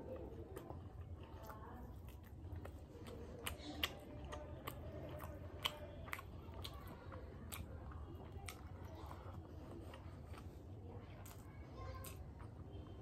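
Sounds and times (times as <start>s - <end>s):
low steady hum: 0.0s - 13.0s
person chewing: 0.0s - 13.0s.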